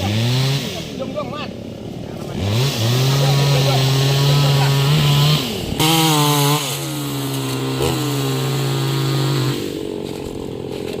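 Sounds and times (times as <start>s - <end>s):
chainsaw engine at high revs: 0.0s - 11.0s.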